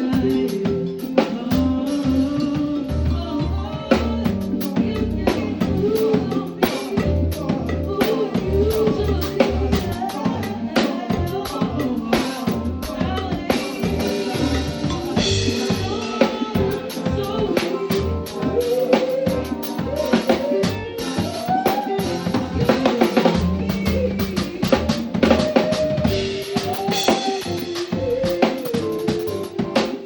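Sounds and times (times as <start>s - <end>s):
drum kit beat: 0.0s - 30.0s
live band playing: 0.0s - 30.0s
bass line: 1.5s - 18.7s, 19.3s - 29.8s.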